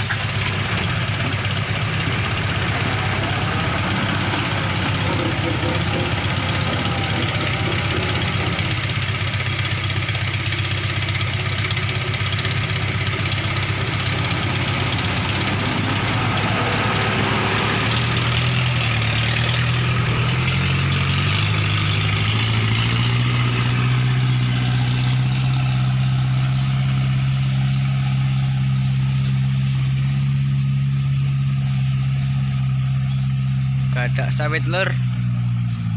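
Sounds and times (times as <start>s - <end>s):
vehicle engine running: 0.0s - 35.9s.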